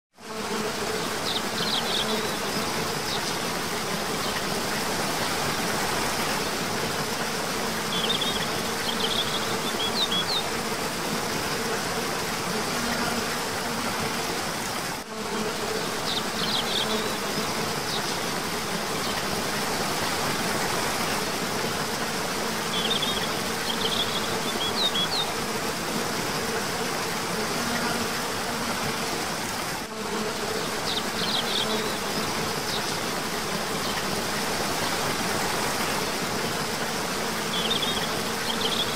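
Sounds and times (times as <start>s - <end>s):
high insect buzz: 0.2s - 38.9s.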